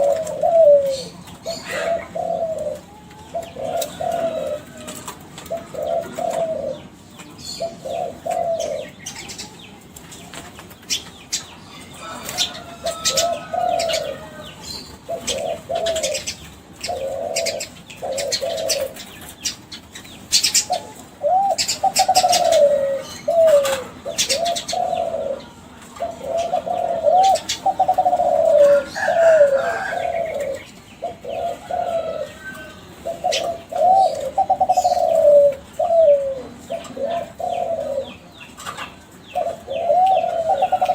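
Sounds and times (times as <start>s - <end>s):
dove cooing: 0.0s - 10.0s, 11.8s - 40.9s.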